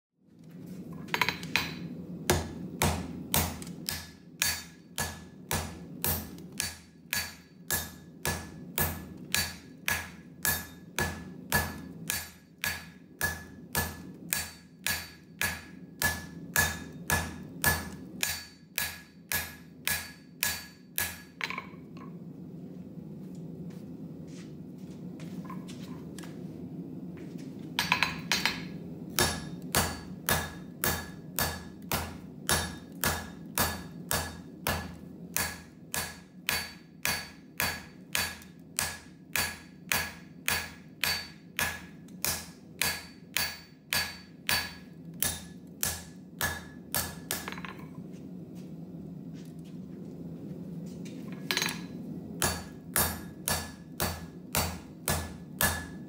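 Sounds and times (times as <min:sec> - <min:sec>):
hammer striking steel on anvil: 0:01.2 - 0:21.8, 0:27.8 - 0:47.9, 0:51.4 - 0:56.0.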